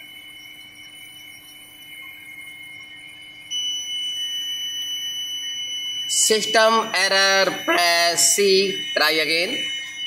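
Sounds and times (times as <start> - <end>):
loud high continuous beep: 0.0 - 10.0
steady high-pitched electronic tone: 0.0 - 10.0.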